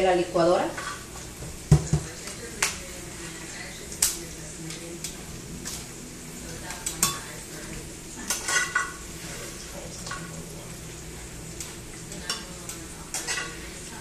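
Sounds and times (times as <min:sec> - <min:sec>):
metal tongs clinking on skillet: 0:00.7 - 0:14.0.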